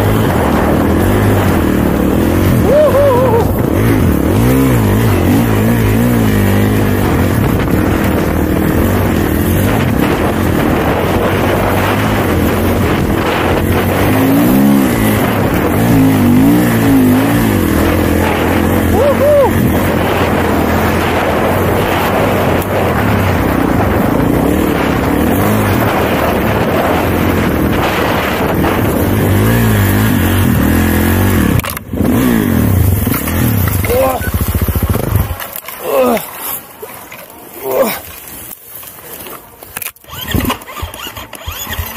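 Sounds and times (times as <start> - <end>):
snowbike engine revving: 0.0 - 36.6, 39.9 - 41.9.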